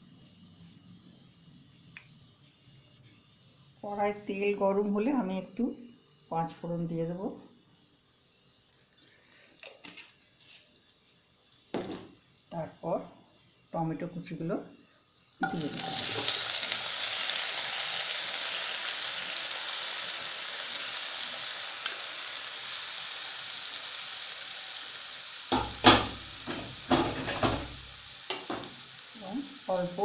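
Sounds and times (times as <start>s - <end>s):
tomatoes sizzling in hot oil: 0.0s - 30.0s.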